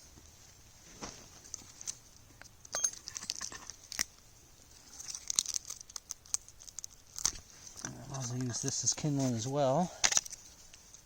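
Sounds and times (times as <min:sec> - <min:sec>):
dry kindling snapping and crackling: 0:00.9 - 0:11.0.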